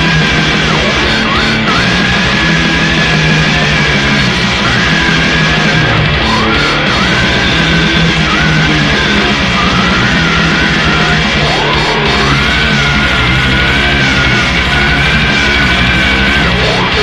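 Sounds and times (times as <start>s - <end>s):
distorted metal song: 0.0s - 17.0s
rapid drumming: 0.0s - 17.0s
yelled vocals: 0.0s - 17.0s.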